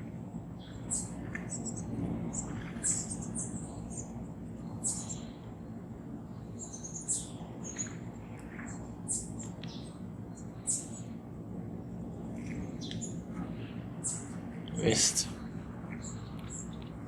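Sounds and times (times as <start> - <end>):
low background noise: 0.0 - 17.0
small birds chirping: 0.5 - 11.2, 11.8 - 17.0.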